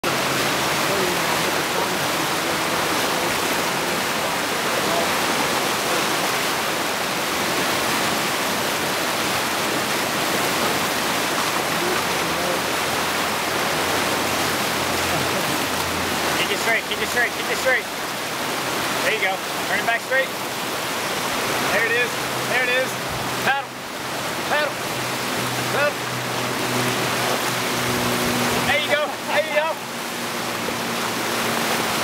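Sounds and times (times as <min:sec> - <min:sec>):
river rapids rushing: 0:00.0 - 0:32.0.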